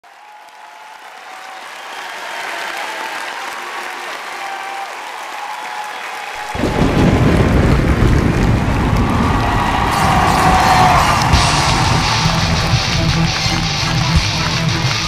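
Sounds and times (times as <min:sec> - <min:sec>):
crowd cheering and applauding: 0:00.0 - 0:15.0
crowd shouts: 0:00.0 - 0:15.0.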